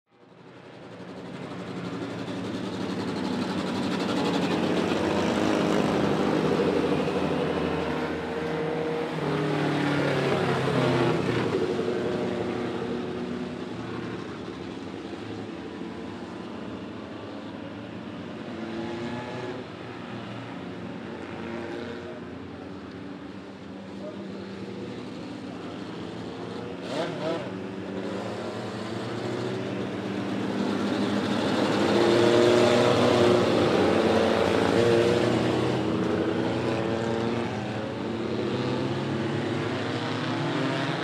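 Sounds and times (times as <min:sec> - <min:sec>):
racing truck engines: 0:00.1 - 0:41.0.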